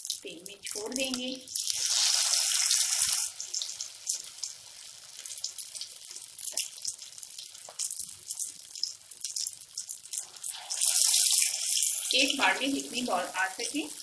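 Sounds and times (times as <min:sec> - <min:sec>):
oil sizzling and popping: 0:00.0 - 0:14.0.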